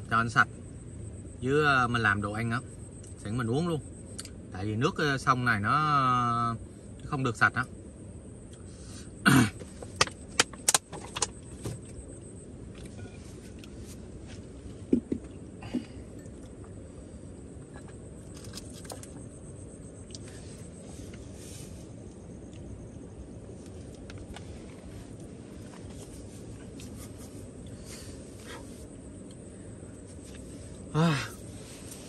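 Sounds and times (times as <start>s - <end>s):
low background noise: 0.0s - 32.0s.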